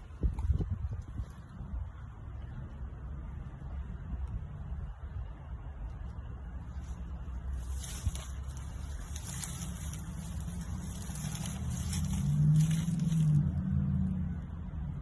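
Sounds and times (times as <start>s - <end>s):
low motor rumble: 0.0s - 15.0s.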